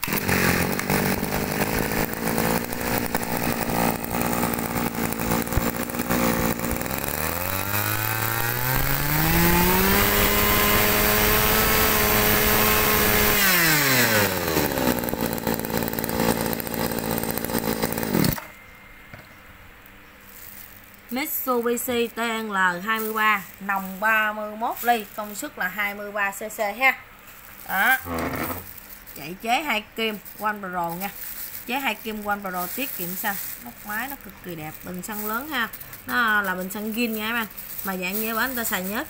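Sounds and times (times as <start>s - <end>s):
brush cutter engine revving: 0.0s - 18.5s, 22.8s - 26.1s, 27.4s - 39.0s.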